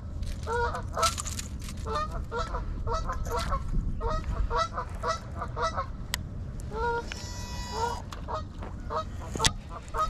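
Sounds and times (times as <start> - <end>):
low steady rumble: 0.0 - 10.0
geese honking: 0.5 - 1.2, 1.8 - 10.0.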